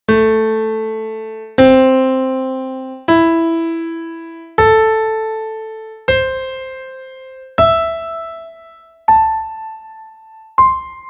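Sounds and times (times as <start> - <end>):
piano arpeggio: 0.1 - 11.0.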